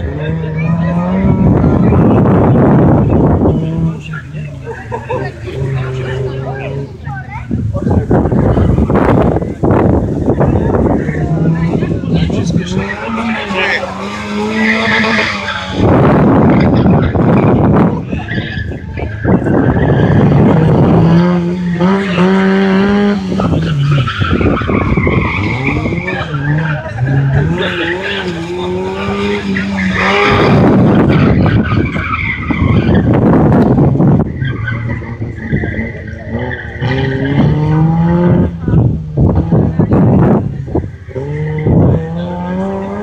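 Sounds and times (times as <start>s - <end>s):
car engine revving: 0.0s - 43.0s
tyres skidding: 0.0s - 43.0s.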